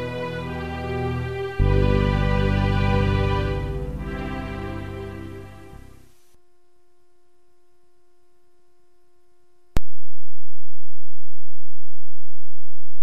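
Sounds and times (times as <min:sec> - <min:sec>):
steady electronic hum: 0:00.0 - 0:11.0.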